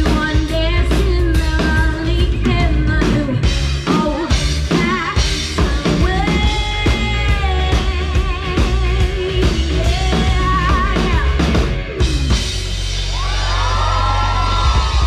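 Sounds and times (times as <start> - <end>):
woman singing with vibrato: 0.0 - 12.2
bass guitar: 0.0 - 15.0
drum kit: 0.0 - 15.0
electric guitar: 0.0 - 15.0.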